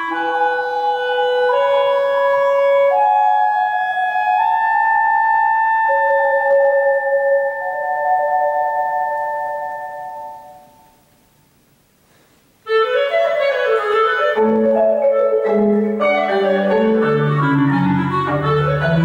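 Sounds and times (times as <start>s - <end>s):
clarinet: 0.0s - 11.1s, 12.6s - 19.0s.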